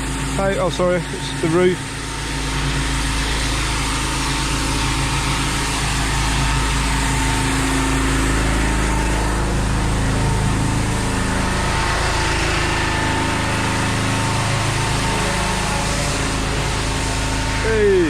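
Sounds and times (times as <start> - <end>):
small engine droning: 0.0 - 18.0.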